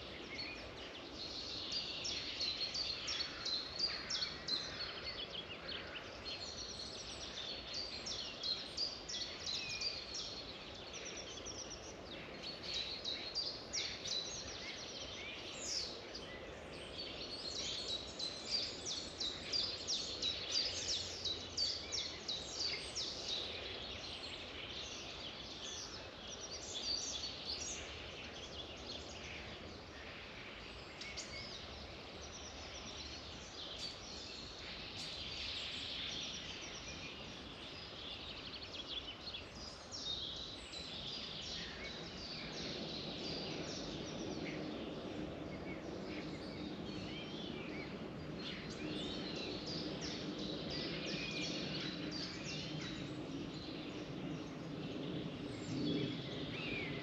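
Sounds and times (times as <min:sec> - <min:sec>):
steady background hiss: 0:00.0 - 0:57.0
wild birds singing: 0:00.0 - 0:57.0.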